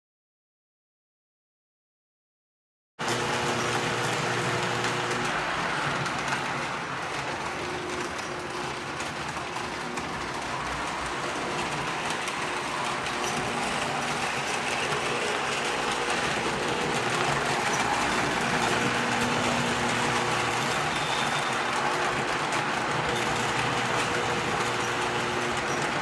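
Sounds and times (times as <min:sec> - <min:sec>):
model train running on track: 0:03.0 - 0:26.0.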